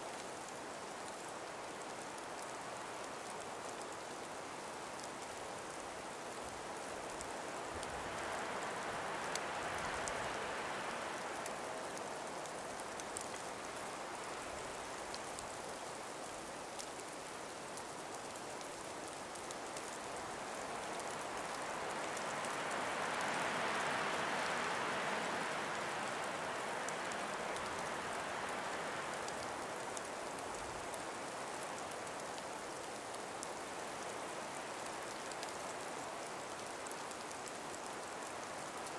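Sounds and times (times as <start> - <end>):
light wind through forest: 0.0 - 38.9
patter of small ticks: 0.1 - 38.9.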